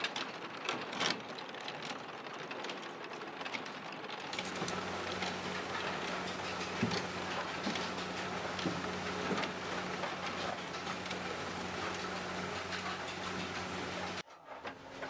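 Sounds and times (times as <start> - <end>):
machinery clicks and rattles: 0.0 - 15.0.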